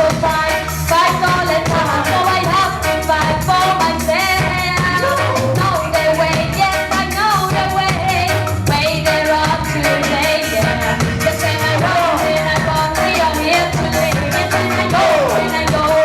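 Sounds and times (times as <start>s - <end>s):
reggae music: 0.0s - 16.0s
woman singing: 0.0s - 16.0s.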